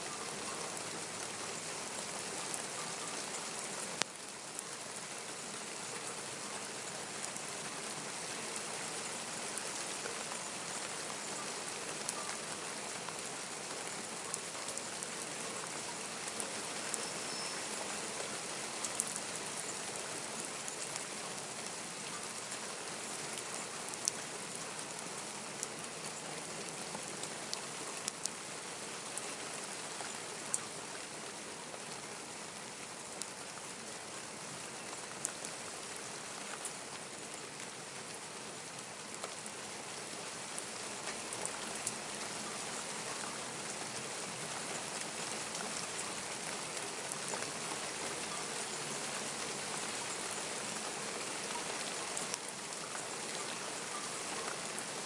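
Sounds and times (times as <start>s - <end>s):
heavy rain falling: 0.0s - 55.0s
raindrops ticking nearby: 0.0s - 55.0s.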